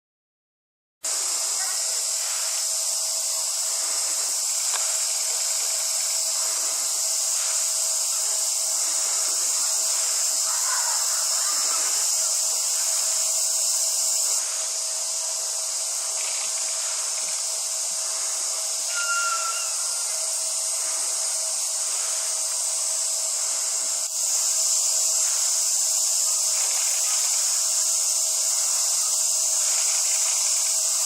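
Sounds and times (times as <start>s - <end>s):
cicadas chorus: 1.0s - 31.0s
faint steady hum: 1.1s - 31.0s.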